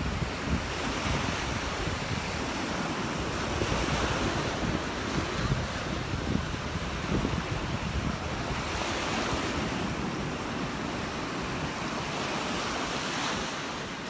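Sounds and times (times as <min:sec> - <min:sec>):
surf breaking on the beach: 0:00.0 - 0:14.0
wind rumbling on microphone: 0:00.0 - 0:14.0.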